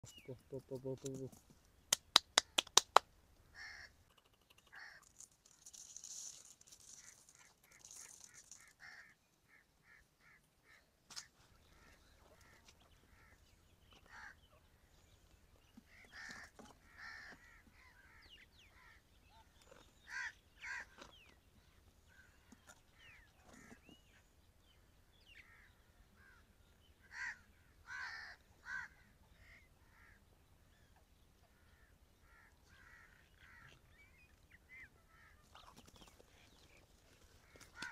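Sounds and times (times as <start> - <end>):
bird calls and chirps: 0.0 - 1.4, 3.8 - 37.9.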